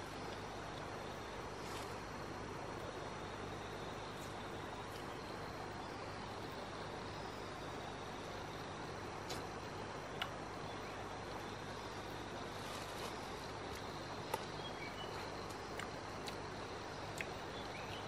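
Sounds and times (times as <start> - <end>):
rainforest ambience hiss: 0.0 - 18.0.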